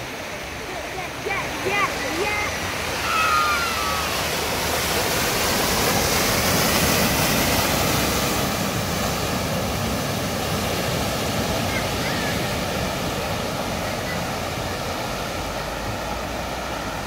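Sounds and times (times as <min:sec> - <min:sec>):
rushing floodwater: 0:00.0 - 0:17.0
vehicle splashing through water: 0:00.0 - 0:17.0.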